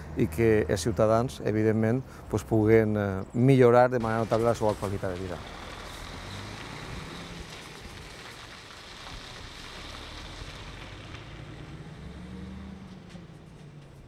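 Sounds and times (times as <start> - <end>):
diesel truck engine rumbling: 0.0 - 14.0
wind and road noise: 0.0 - 14.0.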